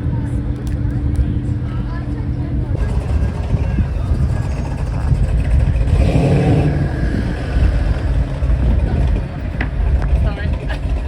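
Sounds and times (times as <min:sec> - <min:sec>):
traffic rumble: 0:00.0 - 0:11.0
vehicle passing close: 0:02.0 - 0:11.0.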